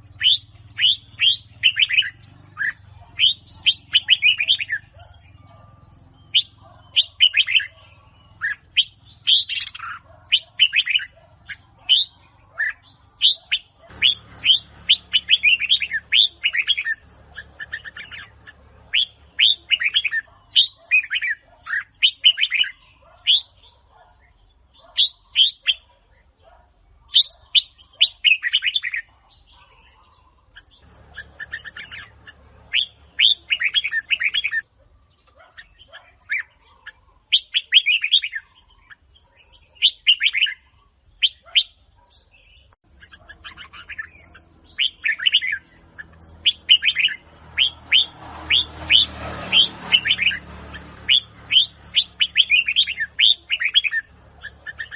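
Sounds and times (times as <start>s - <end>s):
bulbul singing: 0.0s - 54.9s.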